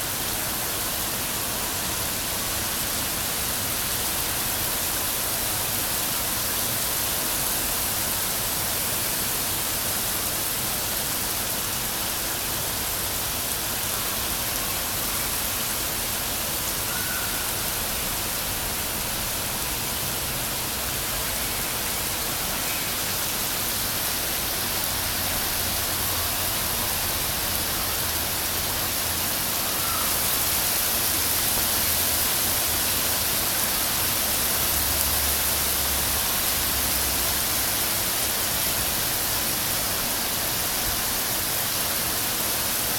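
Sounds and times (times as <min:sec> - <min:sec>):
heavy rain falling: 0:00.1 - 0:42.9.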